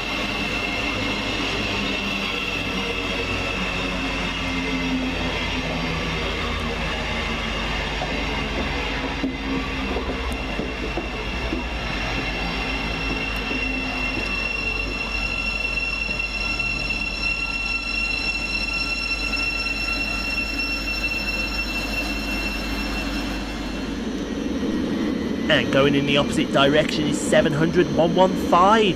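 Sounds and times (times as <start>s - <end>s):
electric train whine: 0.0s - 28.9s
train low rumble: 0.0s - 28.9s.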